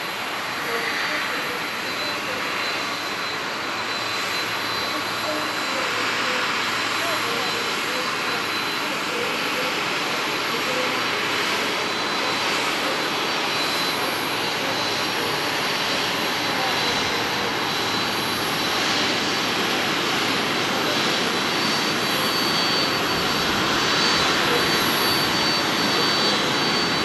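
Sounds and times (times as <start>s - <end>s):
jet engines at taxi power: 0.0s - 27.0s.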